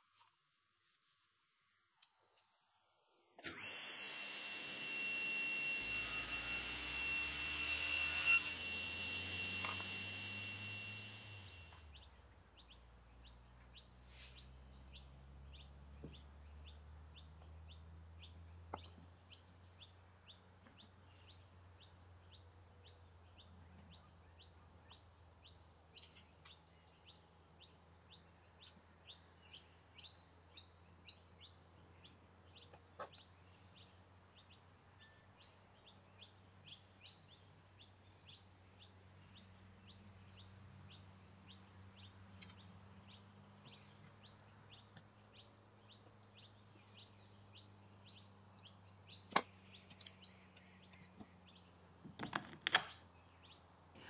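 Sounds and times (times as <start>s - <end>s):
bird chirping: 7.6s - 53.8s.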